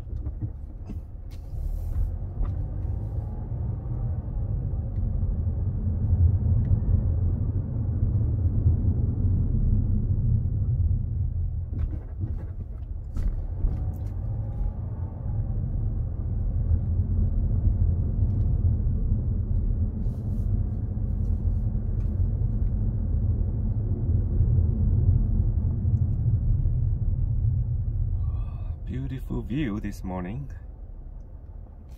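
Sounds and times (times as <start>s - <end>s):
car engine and tyre rumble: 0.0s - 31.9s.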